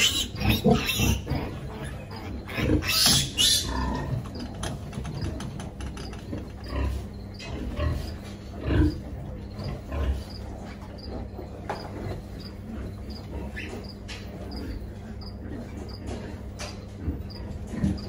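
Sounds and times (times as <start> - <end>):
pigs grunting: 0.0 - 18.0
pigs squealing: 0.0 - 18.0.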